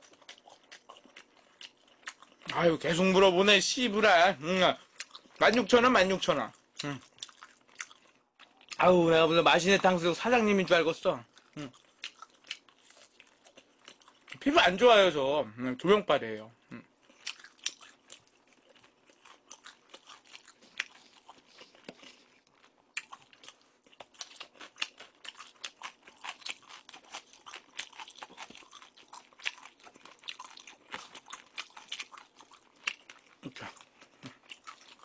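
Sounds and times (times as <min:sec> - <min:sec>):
person chewing crispy food: 0:00.0 - 0:03.2, 0:04.8 - 0:08.9, 0:11.2 - 0:14.5, 0:16.7 - 0:35.0.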